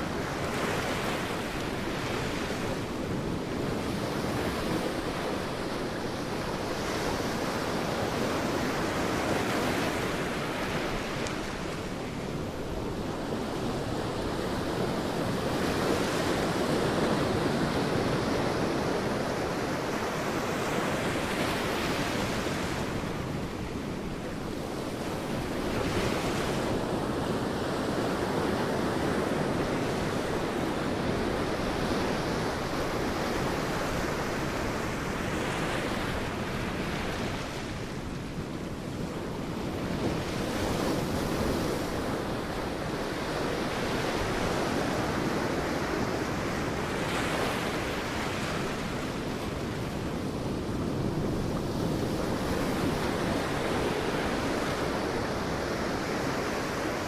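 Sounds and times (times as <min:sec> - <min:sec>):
waves crashing on beach: 0:00.0 - 0:57.0.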